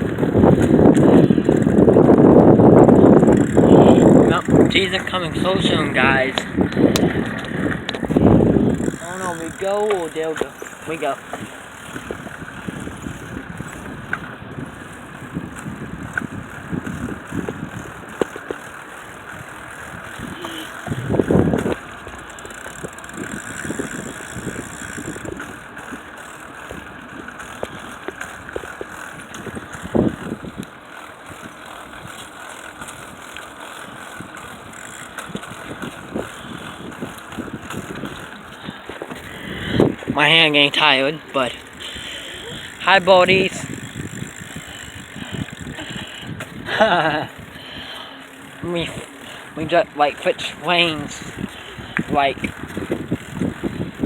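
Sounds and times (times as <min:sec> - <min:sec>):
bicycle tyres on pavement: 0:00.0 - 0:54.0
bike rattling and knocking: 0:00.0 - 0:54.0.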